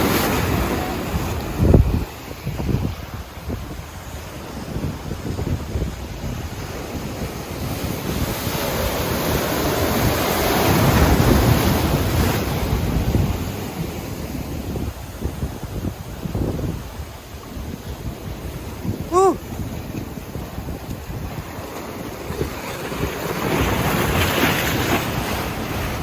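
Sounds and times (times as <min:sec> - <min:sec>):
ocean surf breaking: 0:00.0 - 0:26.0
wind rumbling on microphone: 0:00.0 - 0:26.0.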